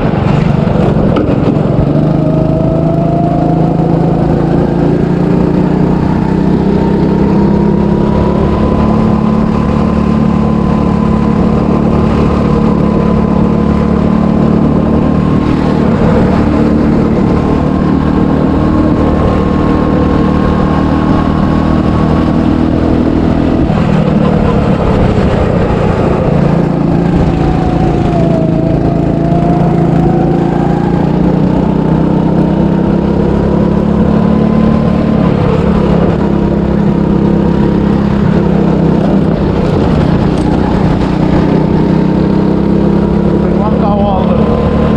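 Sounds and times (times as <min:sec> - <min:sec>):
go-kart engine revving: 0:00.0 - 0:44.9.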